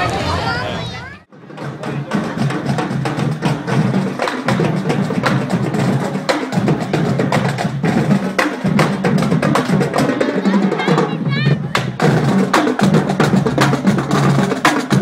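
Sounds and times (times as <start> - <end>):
drumline strikes: 1.3 - 15.0
marching band playing: 1.3 - 15.0.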